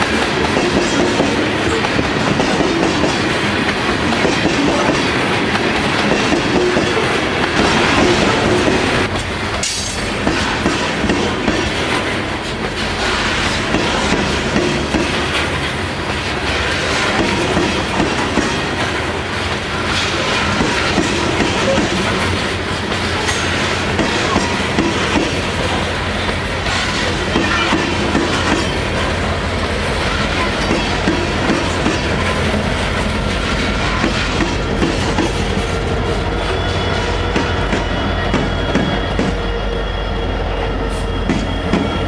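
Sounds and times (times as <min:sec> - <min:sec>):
freight train wheels clattering: 0:00.0 - 0:42.0.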